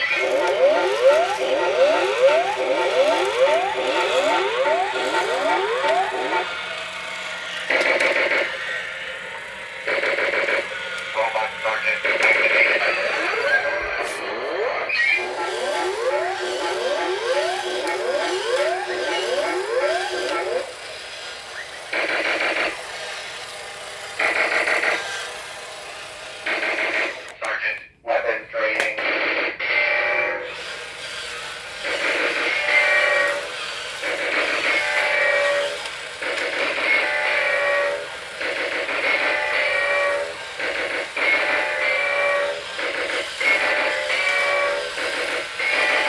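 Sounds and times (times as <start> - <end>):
toy robot siren-like sweeps: 0.0 - 23.4, 29.5 - 46.0.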